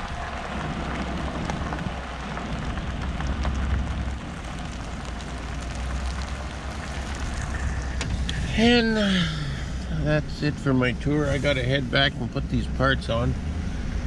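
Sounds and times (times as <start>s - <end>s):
steady crackling hiss: 0.0s - 14.0s
vehicle engine and road rumble: 0.0s - 14.0s.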